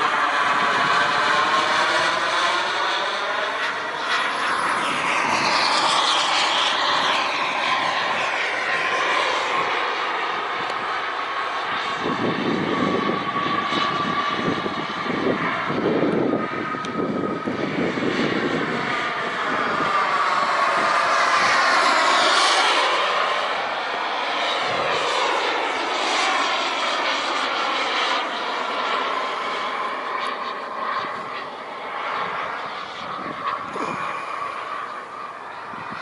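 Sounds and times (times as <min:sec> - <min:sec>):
wind buffeting: 0:00.0 - 0:25.8, 0:29.2 - 0:36.0
model jet engine flying past: 0:00.0 - 0:36.0.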